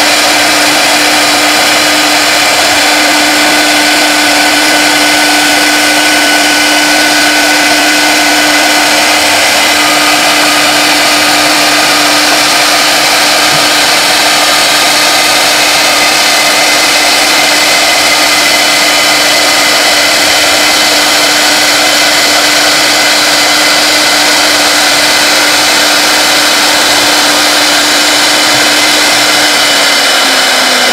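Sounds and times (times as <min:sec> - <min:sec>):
router spindle whining: 0:00.0 - 0:30.9.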